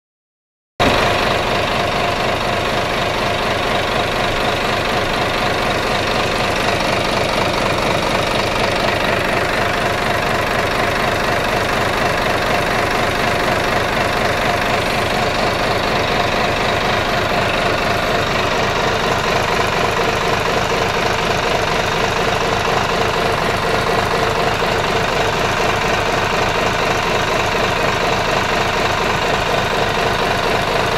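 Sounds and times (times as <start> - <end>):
diesel engine running: 0.8 - 30.9.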